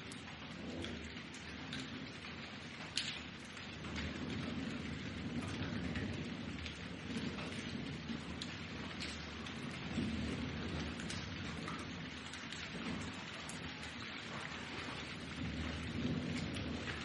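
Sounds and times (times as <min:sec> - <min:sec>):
low rumble of thunder: 0:00.0 - 0:17.0
steady rain with ticking drops: 0:00.0 - 0:17.0.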